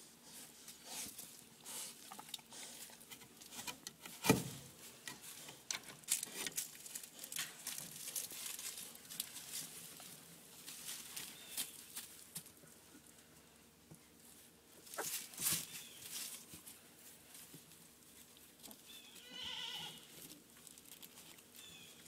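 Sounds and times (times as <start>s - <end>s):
puppies shuffling in wood shavings: 0.0s - 22.0s.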